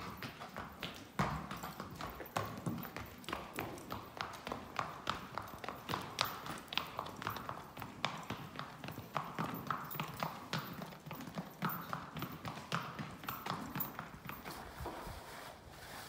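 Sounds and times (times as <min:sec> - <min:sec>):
horse hoofbeats: 0:00.0 - 0:15.4.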